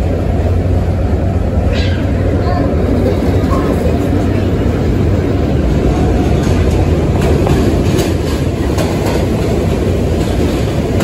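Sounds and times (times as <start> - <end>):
subway train rumble: 0.0 - 11.0
wheels clicking over rail joints: 0.0 - 11.0.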